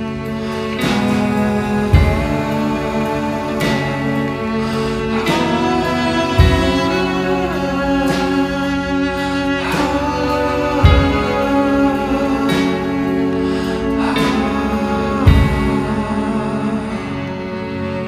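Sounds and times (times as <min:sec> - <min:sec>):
deep bass hit: 0:00.0 - 0:18.0
instrumental music with chords: 0:00.0 - 0:18.0.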